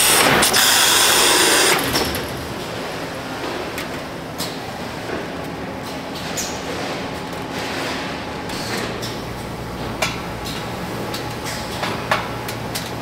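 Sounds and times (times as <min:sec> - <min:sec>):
factory machinery noise: 0:00.0 - 0:13.0.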